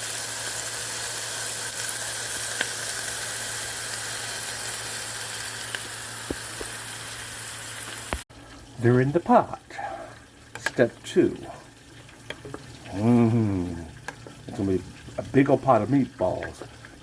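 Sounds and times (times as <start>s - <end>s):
meatballs sizzling in a skillet: 0.0s - 17.0s.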